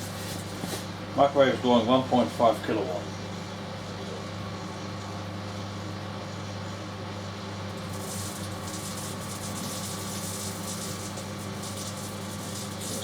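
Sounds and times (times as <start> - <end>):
microwave oven hum: 0.0 - 13.0.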